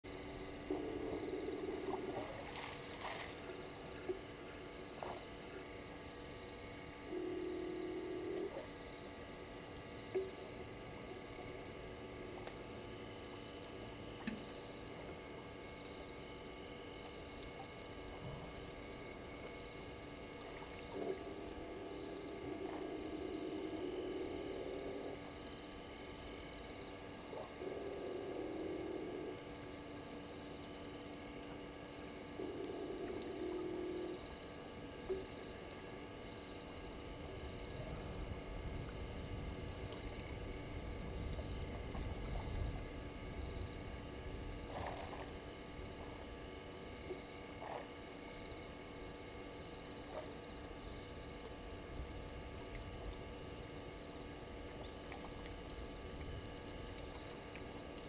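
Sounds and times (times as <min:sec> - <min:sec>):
crickets and insects trilling: 0:00.1 - 0:58.0.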